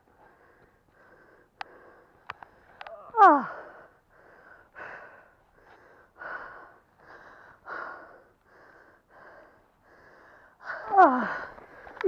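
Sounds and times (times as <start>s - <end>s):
person breathing heavily: 0.0s - 12.0s.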